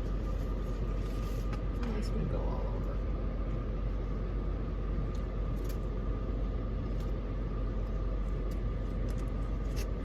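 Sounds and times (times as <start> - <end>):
faint constant hum: 0.0 - 10.0
low rumble: 0.0 - 10.0.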